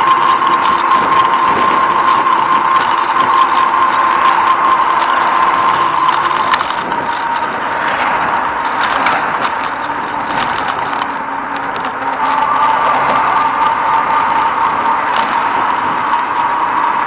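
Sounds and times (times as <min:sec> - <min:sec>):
bike clicks and rattles: 0:00.0 - 0:17.0
thin steady whine: 0:00.0 - 0:17.0
wind and tyre noise: 0:00.0 - 0:17.0.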